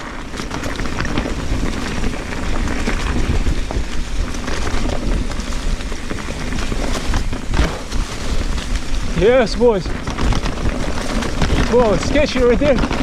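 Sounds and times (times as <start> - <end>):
bike rattling: 0.0 - 13.0
bike tyres crackling over stones: 0.0 - 13.0
wind buffeting microphone: 0.0 - 13.0.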